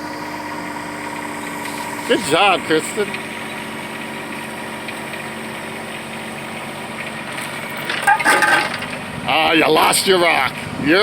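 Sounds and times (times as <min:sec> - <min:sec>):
excavator engine idling: 0:00.0 - 0:11.0.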